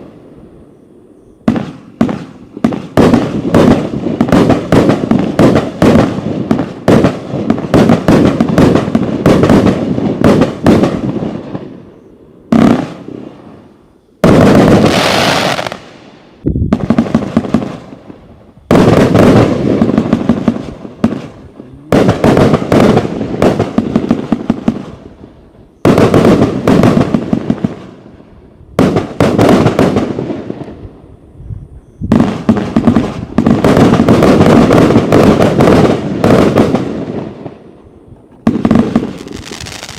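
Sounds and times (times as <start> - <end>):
firework bangs and crackling: 1.4 - 39.9.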